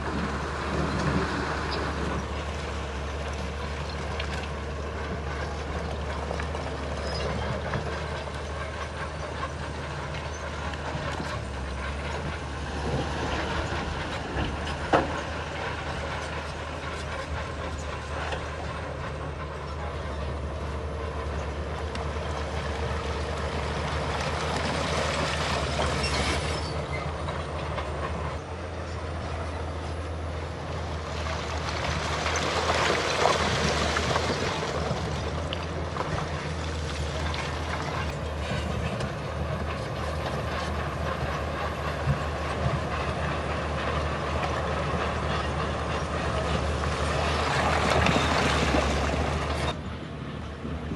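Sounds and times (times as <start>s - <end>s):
bulldozer diesel engine: 0.0s - 50.9s.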